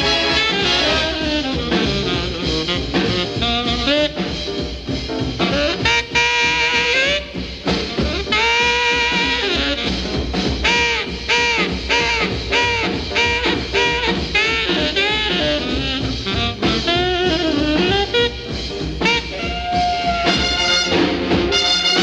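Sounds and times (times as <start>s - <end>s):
horn playing bent riffs: 0.0s - 22.0s
swing jazz band: 0.0s - 22.0s.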